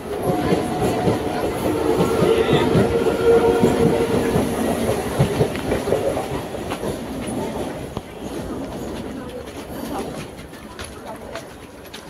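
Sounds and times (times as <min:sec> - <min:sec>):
electric train hum: 0:00.0 - 0:12.0.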